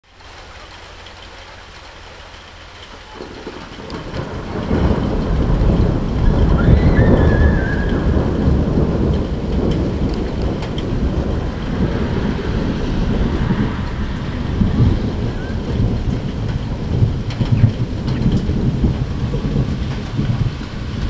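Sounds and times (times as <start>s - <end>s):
steady rain: 0.0s - 21.0s
rolling thunder: 0.1s - 21.0s.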